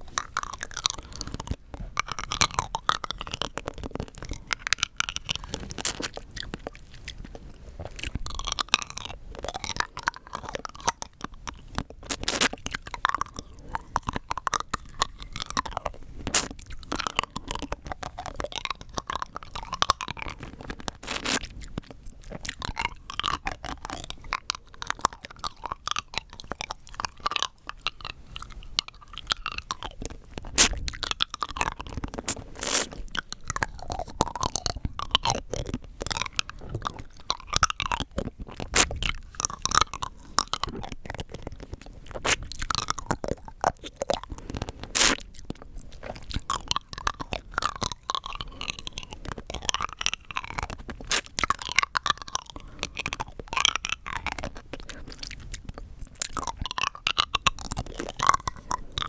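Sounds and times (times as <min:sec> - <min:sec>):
rock candy crunched and chewed: 0:00.0 - 0:59.0.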